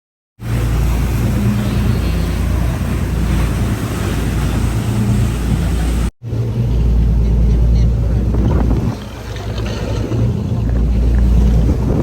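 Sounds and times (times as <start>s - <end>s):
boat engine droning: 0.4s - 12.0s
water and wind noise: 0.4s - 12.0s.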